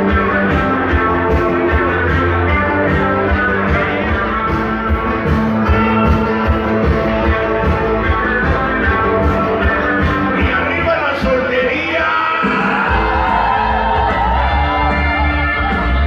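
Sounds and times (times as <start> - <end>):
loud rock music over sound system: 0.0 - 16.0.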